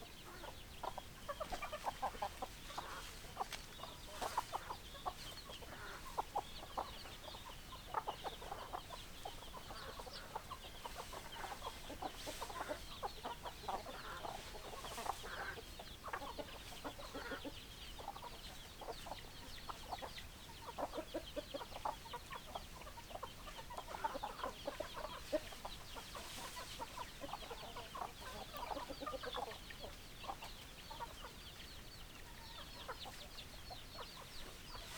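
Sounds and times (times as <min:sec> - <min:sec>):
hens clucking: 0:00.0 - 0:34.9.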